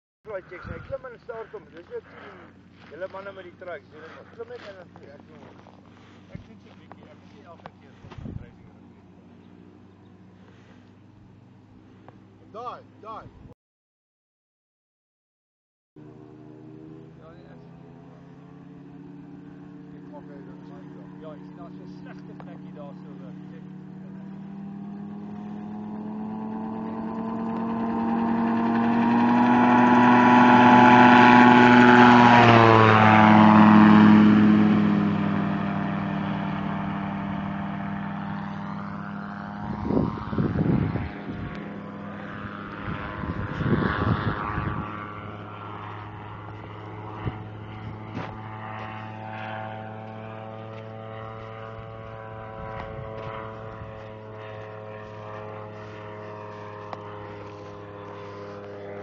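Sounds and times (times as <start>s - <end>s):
light aircraft propeller engine: 0.3s - 13.6s, 16.0s - 59.0s.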